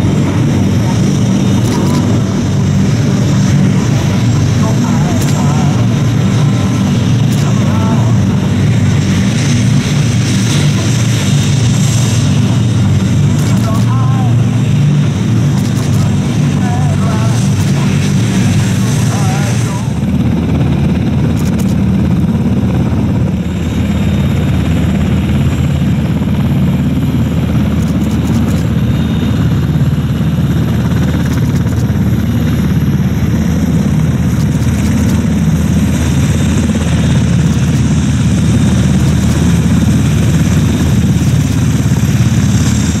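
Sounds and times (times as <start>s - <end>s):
jet engines deep rumble: 0.0s - 43.0s.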